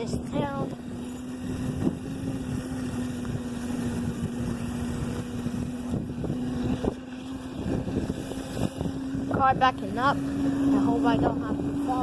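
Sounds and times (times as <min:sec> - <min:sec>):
motorcycle engine running: 0:00.0 - 0:12.0
wind rumbling on microphone: 0:00.0 - 0:12.0.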